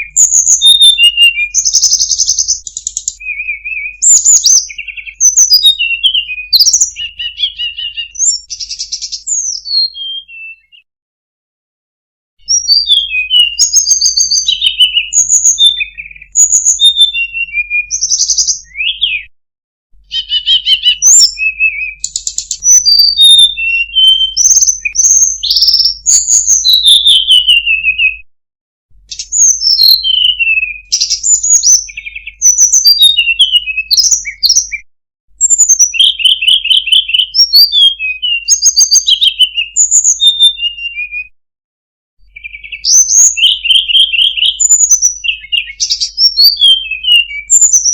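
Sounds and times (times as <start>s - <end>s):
songbird singing varied phrases: 0.0s - 10.9s, 12.4s - 19.3s, 20.0s - 28.2s, 29.1s - 34.8s, 35.4s - 41.3s, 42.2s - 47.9s.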